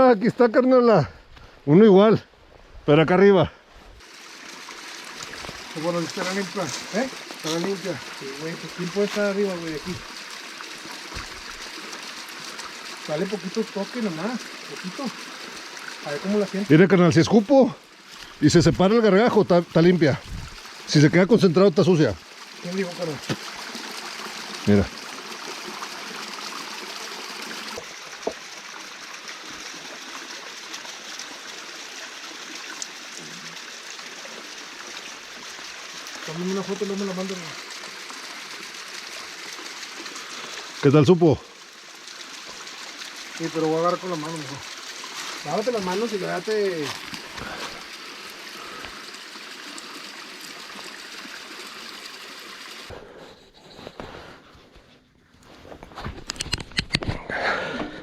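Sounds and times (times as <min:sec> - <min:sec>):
spring water trickling: 0:03.6 - 0:53.1.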